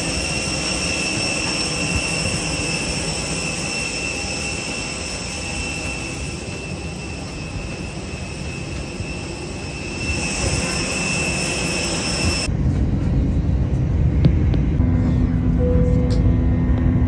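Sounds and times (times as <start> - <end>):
deep engine rumble: 0.0 - 17.0
jet engines whining: 0.0 - 17.0.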